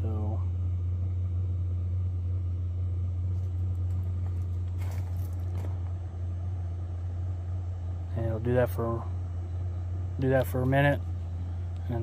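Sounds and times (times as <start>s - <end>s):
heater fan humming: 0.0s - 12.0s.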